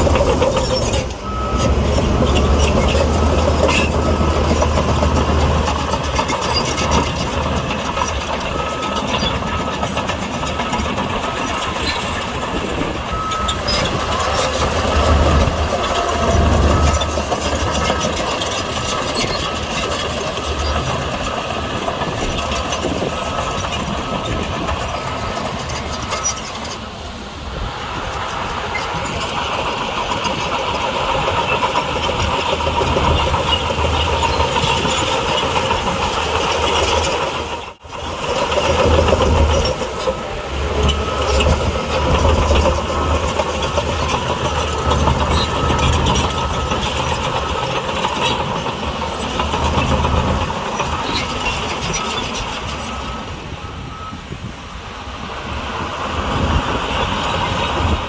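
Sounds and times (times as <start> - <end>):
heavy machinery diesel engines running: 0.0 - 58.0.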